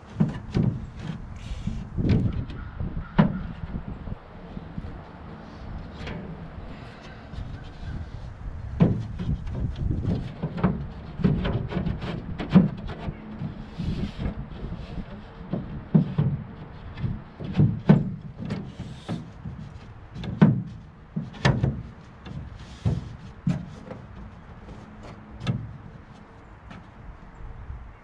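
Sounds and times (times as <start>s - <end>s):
knocks against boat hull: 0.0s - 3.8s, 5.9s - 26.9s.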